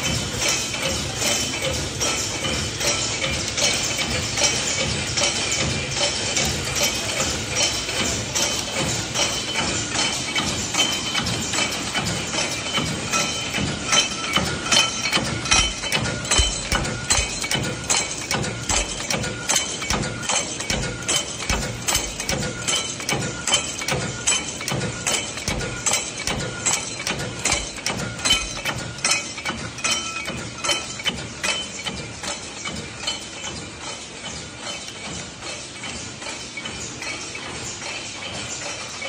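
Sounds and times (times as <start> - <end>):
forging machine metallic blows: 0.0 - 39.0.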